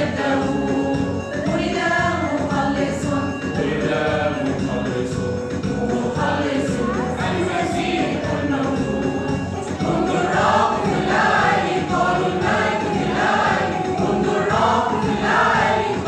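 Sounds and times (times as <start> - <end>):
mixed choir singing: 0.0 - 4.9, 5.6 - 16.0.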